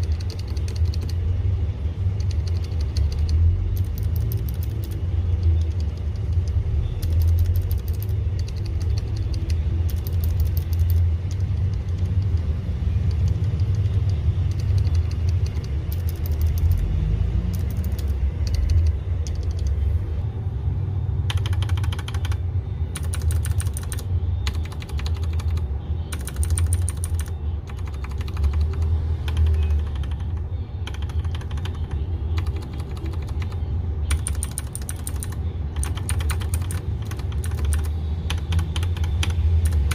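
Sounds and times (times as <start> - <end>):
mechanical keyboard typing: 0.0 - 1.3, 2.1 - 19.8, 21.2 - 39.9.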